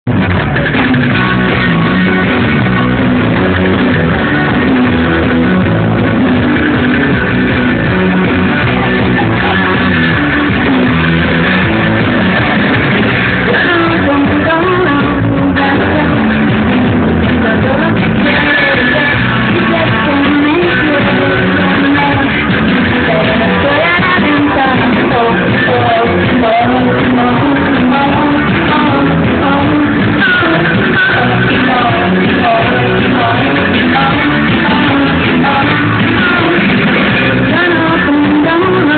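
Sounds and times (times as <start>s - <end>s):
drums: 0.0s - 38.9s
electric guitars: 0.0s - 38.9s
live rock band playing: 0.1s - 38.9s
lead singer singing: 0.4s - 38.9s.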